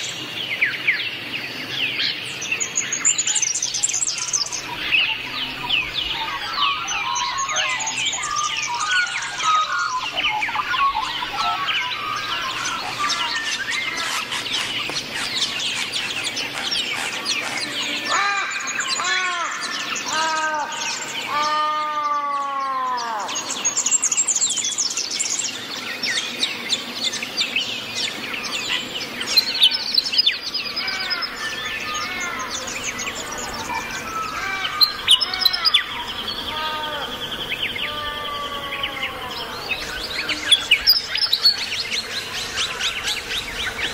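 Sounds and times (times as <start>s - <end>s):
birds chirping: 0.0s - 43.9s
drawn-out drooping bird calls: 2.4s - 24.7s, 27.6s - 43.9s.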